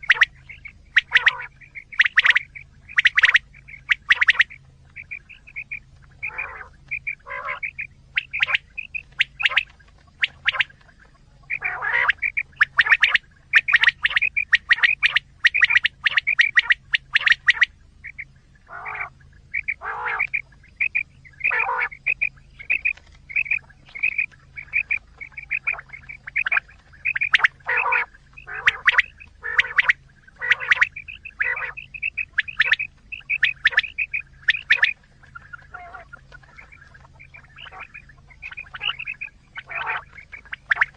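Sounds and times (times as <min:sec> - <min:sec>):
quail calls: 0:00.0 - 0:40.9.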